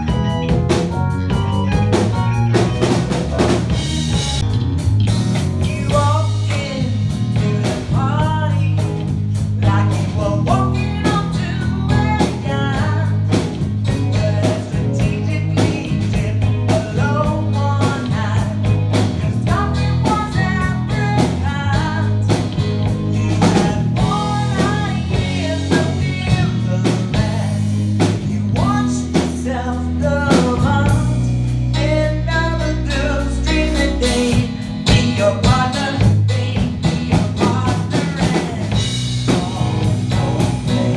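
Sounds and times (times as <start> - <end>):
drum kit: 0.0 - 40.9
electric bass guitar: 0.0 - 40.9
woman singing into a microphone: 5.6 - 40.9.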